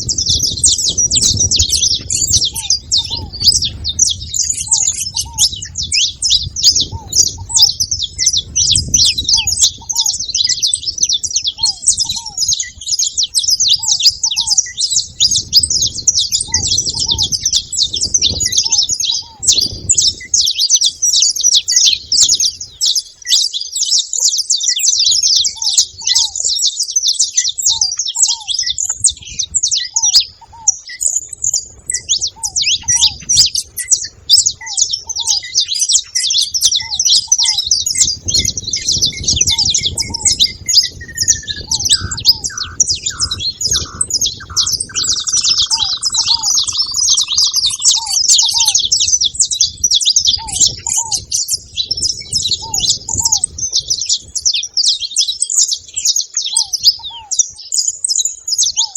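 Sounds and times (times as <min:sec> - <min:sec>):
finches chirping: 0:00.0 - 0:58.9.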